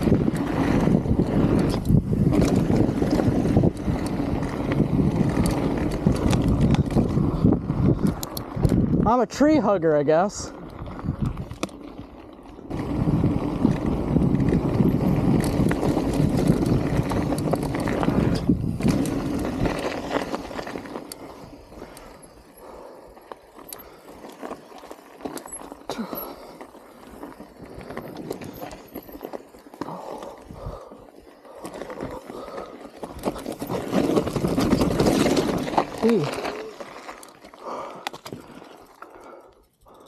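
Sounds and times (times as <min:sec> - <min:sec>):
gravel and bike parts rattling: 0:00.0 - 0:40.0
mountain bike rolling on gravel: 0:00.0 - 0:40.0.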